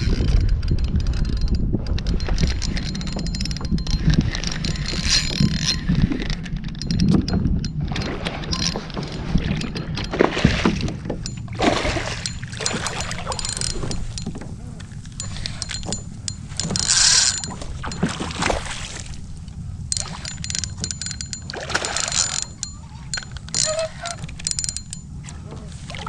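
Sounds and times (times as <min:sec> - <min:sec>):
gear knocking and clicking: 0:00.0 - 0:25.5
water sloshing against hull: 0:00.0 - 0:26.0
wind buffeting microphone: 0:00.0 - 0:26.0.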